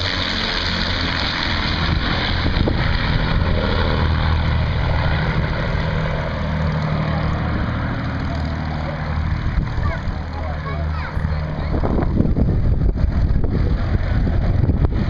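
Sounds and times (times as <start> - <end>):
broad rushing noise: 0.0 - 15.0
engine droning: 0.0 - 15.0.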